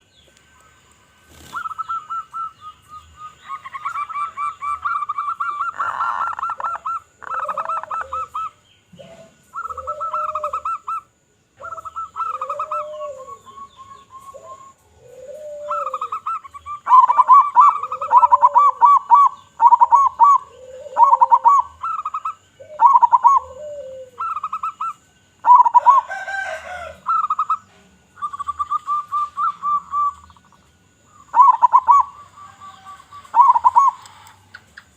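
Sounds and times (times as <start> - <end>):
doves cooing: 0.6 - 34.9.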